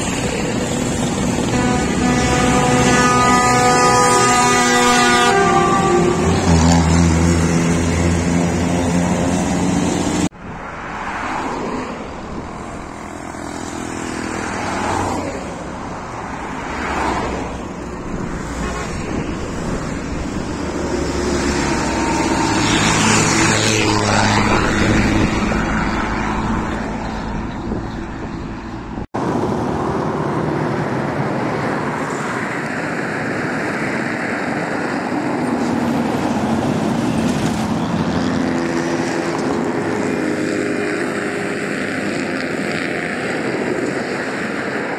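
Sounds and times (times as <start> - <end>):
bus diesel engines passing: 0.0 - 44.9
road traffic noise: 0.0 - 44.9.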